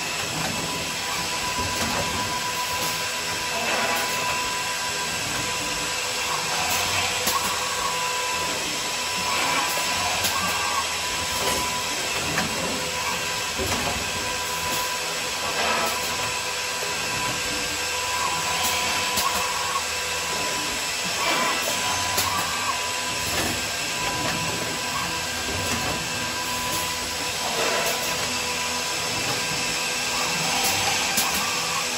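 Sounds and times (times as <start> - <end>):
machine whine: 0.0 - 31.9.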